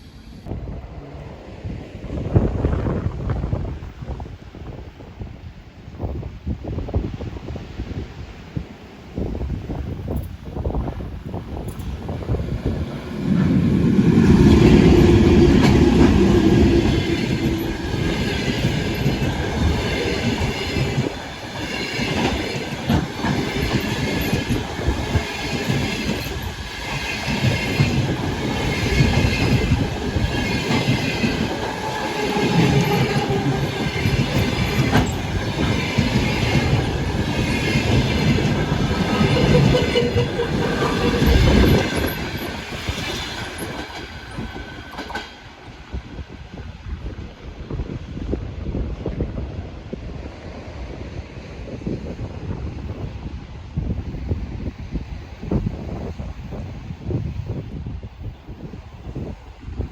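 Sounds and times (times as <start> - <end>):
passenger train rumbling past: 0.0 - 59.9.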